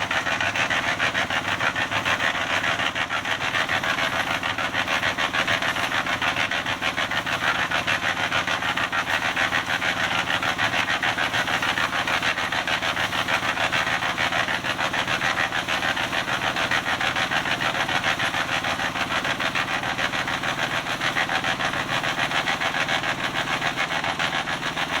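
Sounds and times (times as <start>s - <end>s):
small engine running steadily: 0.0s - 25.0s.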